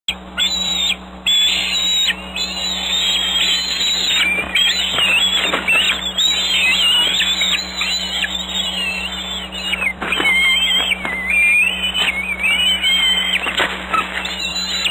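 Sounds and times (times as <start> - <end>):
eagles whistled squeals: 0.1 - 14.9
low hum: 0.1 - 14.9.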